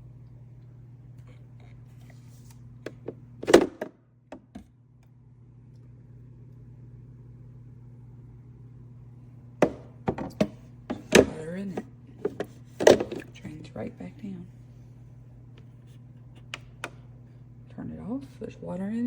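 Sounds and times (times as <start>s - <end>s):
ice maker humming: 0.0s - 19.0s.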